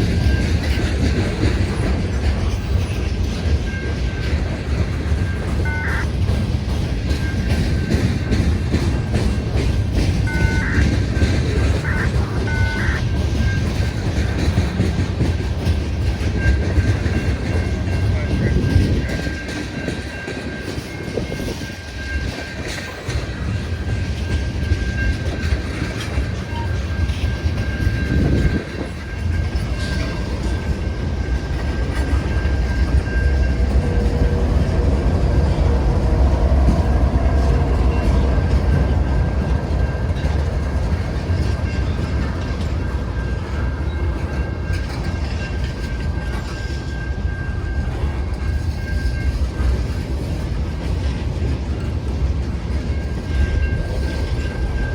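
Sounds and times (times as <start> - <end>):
freight train rumbling on rails: 0.0 - 54.9.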